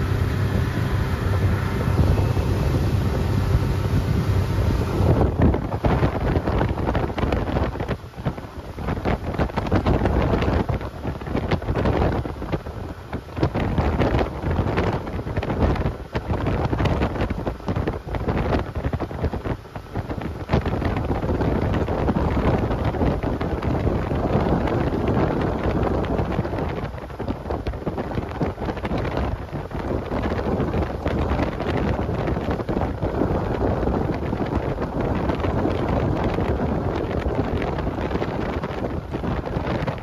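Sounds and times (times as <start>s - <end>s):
boat engine running: 0.0s - 40.0s
wind buffeting microphone: 0.0s - 40.0s.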